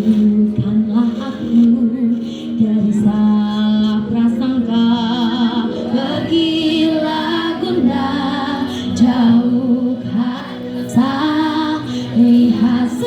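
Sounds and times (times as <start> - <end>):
choir singing with vibrato: 0.0 - 13.0.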